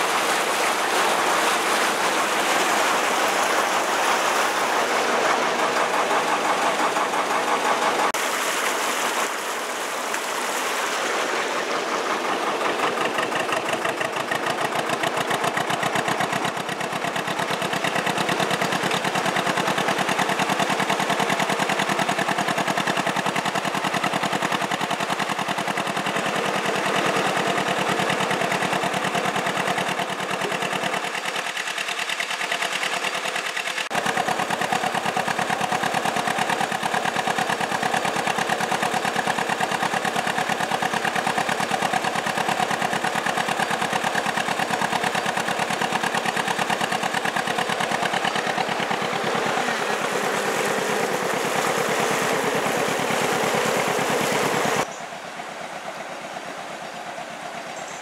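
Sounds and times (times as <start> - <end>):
water rushing through lock gates: 0.0 - 57.6
diesel boat engine at low revs: 0.0 - 58.0.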